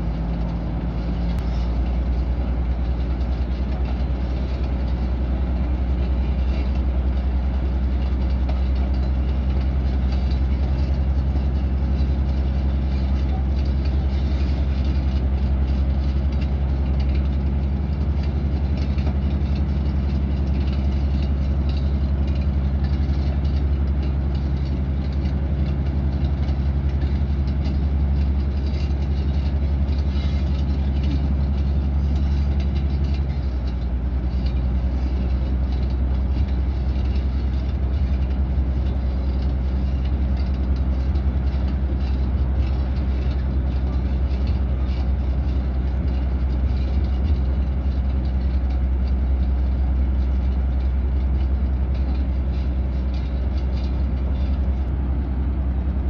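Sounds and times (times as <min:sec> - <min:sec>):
bulldozer diesel engine running: 0:00.0 - 0:56.0
faint clatter: 0:00.0 - 0:56.0.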